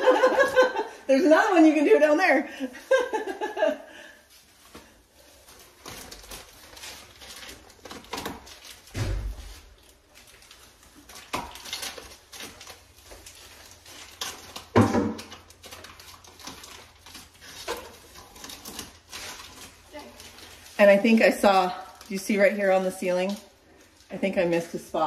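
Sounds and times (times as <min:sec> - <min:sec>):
tape and plastic rustling: 0:00.0 - 0:25.0.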